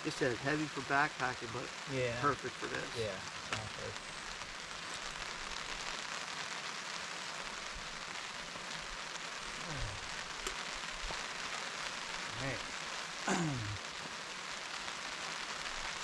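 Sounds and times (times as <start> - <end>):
steady rain hiss: 0.0 - 16.0
raindrop ticks: 2.3 - 6.4, 7.3 - 16.0.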